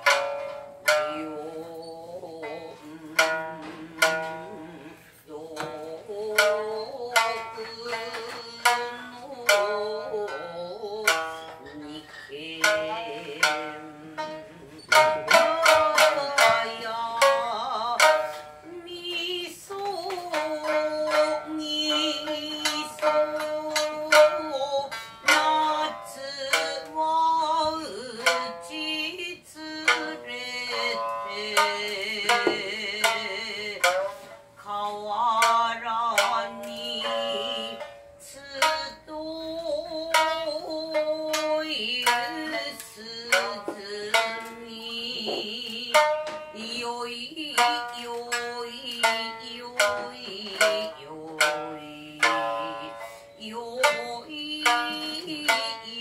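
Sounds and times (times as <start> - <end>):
plucked shamisen notes: 0.0 - 56.0
woman singing: 0.0 - 56.0.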